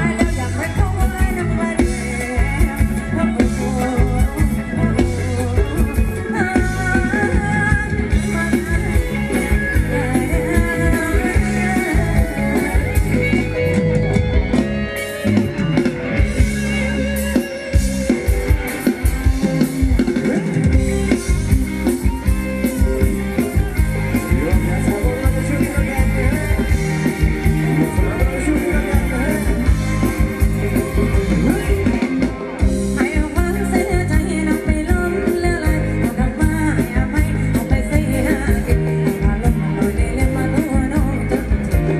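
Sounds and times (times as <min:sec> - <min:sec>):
drum kit beat: 0:00.0 - 0:41.9
guitar: 0:00.0 - 0:41.9
live band dance music: 0:00.0 - 0:41.9.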